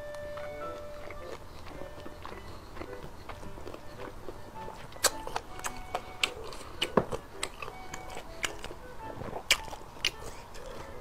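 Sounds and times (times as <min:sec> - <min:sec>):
light background music: 0:00.0 - 0:11.0
wet chewing: 0:00.0 - 0:11.0
mouth clicks: 0:00.1 - 0:11.0.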